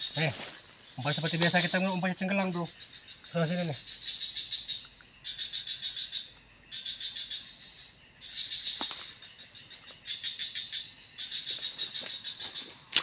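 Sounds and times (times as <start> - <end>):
insects chirping: 0.0 - 13.0
insects droning: 0.0 - 13.0.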